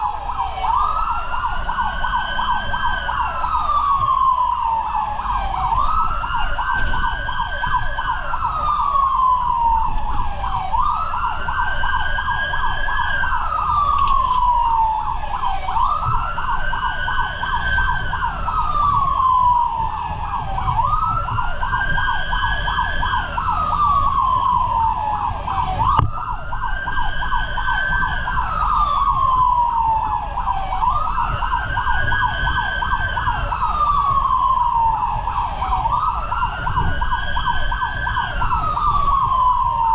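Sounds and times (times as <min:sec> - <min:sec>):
engine and road rumble: 0:00.0 - 0:39.9
fire truck siren wailing: 0:00.0 - 0:39.9.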